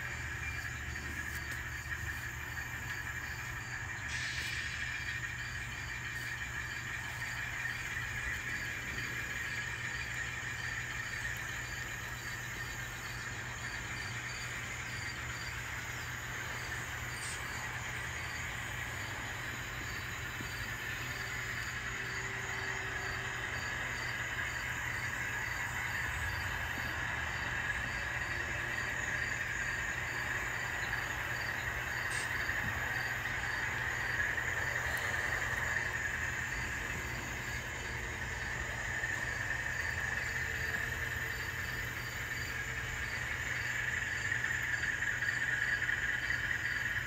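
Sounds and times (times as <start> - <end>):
diesel engine sound from small speaker: 0.0 - 47.0.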